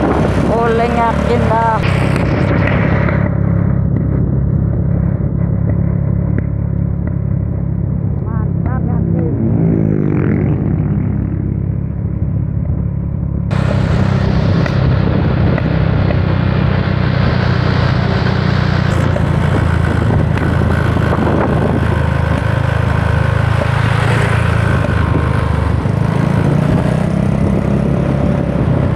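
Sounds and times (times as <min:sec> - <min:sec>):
vehicle engine running: 0:00.0 - 0:28.9
wind and road noise: 0:00.0 - 0:28.9.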